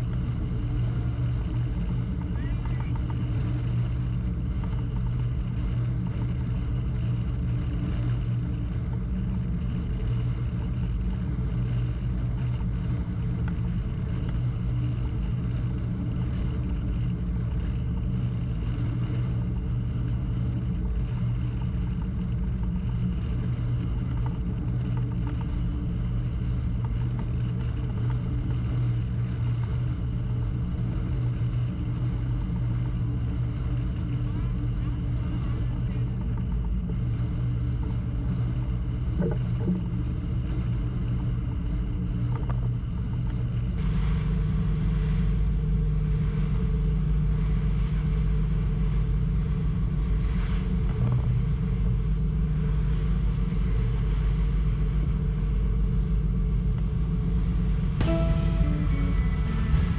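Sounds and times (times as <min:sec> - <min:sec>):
boat engine droning: 0:00.0 - 0:41.4, 0:43.2 - 0:59.9.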